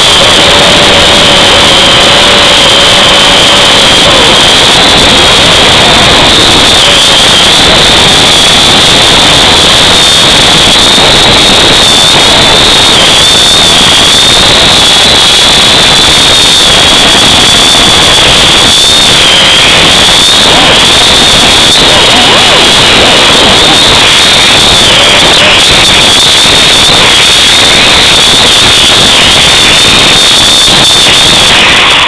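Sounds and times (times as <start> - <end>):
drone propellers whining: 0.0 - 32.0
rushing hiss: 0.0 - 32.0.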